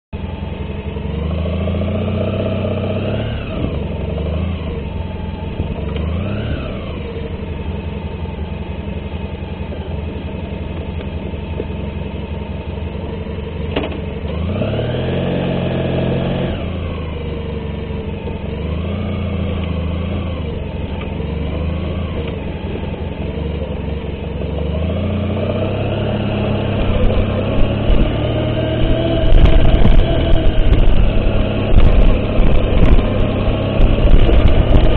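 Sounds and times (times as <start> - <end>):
vehicle engine revving: 0.2 - 34.9.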